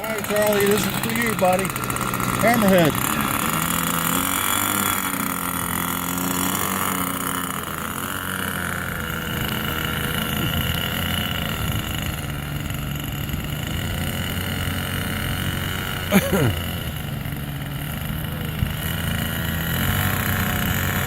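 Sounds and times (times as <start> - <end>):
model airplane engine whining: 0.0 - 21.0.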